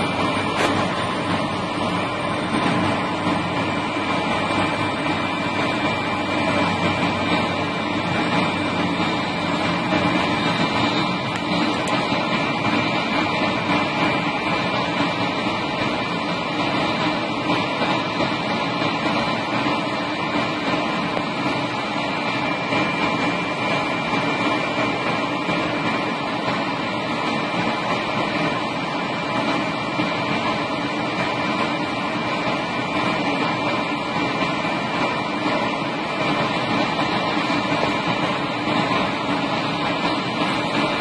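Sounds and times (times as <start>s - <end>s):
helicopter turbine and rotor running: 0.0s - 41.0s.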